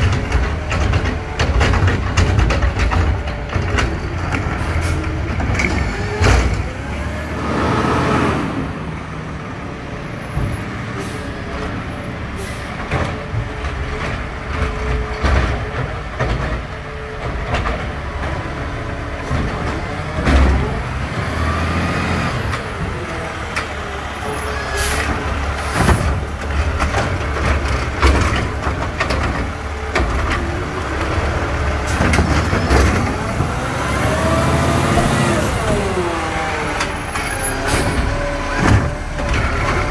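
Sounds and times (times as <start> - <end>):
bins banging: 0.0 - 7.0, 12.4 - 39.9
diesel truck engine: 0.0 - 39.9.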